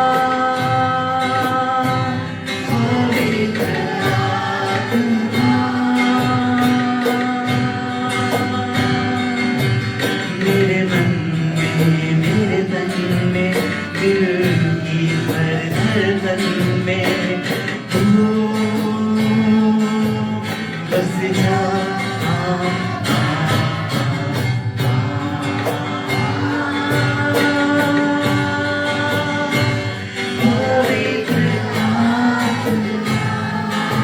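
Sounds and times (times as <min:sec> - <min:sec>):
guitar: 0:00.0 - 0:34.0
person singing: 0:00.0 - 0:34.0
steady drum beat: 0:00.0 - 0:34.0.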